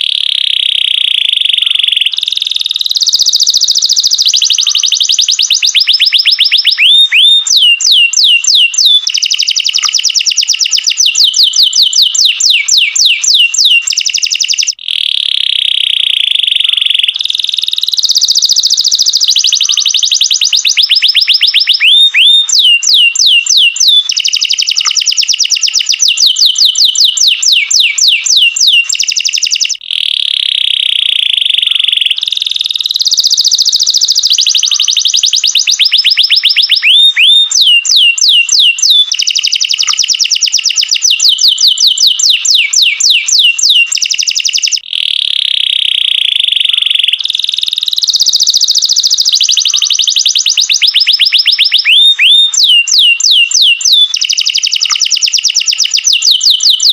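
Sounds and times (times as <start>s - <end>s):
canary singing: 0.0s - 56.9s.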